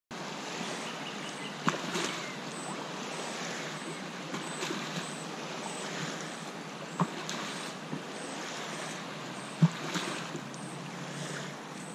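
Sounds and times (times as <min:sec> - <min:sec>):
water splashes: 0:00.1 - 0:11.9
waves lapping on sandy shore: 0:00.1 - 0:11.9.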